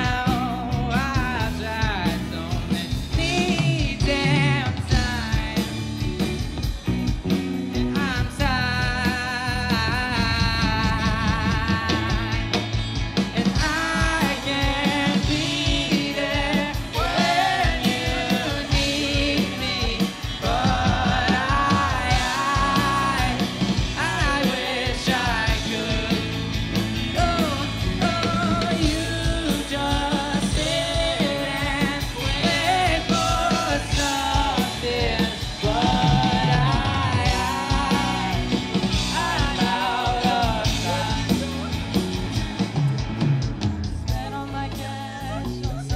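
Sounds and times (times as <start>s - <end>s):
lead vocals singing: 0.0s - 6.4s, 7.8s - 45.9s
bass guitar: 0.0s - 45.9s
drum kit: 0.0s - 45.9s
electric guitars: 0.0s - 45.9s.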